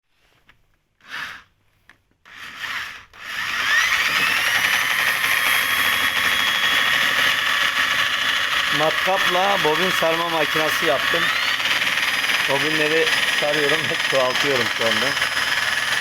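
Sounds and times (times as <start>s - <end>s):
power drill whining: 1.0s - 1.5s, 2.2s - 16.0s.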